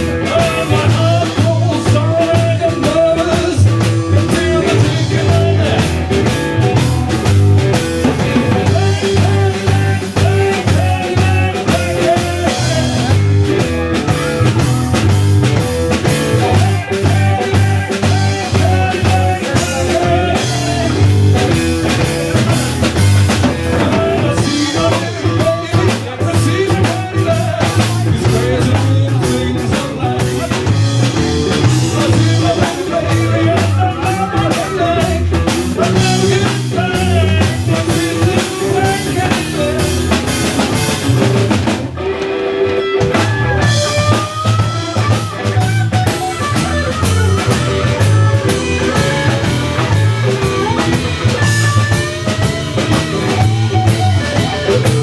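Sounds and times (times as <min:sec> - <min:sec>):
blues-rock band playing loudly: 0:00.0 - 0:55.0
lead guitar bending notes: 0:00.0 - 0:55.0.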